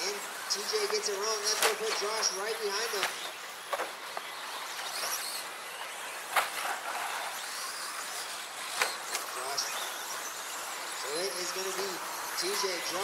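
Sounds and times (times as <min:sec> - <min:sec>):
rc truck motors whining: 0:00.0 - 0:13.0.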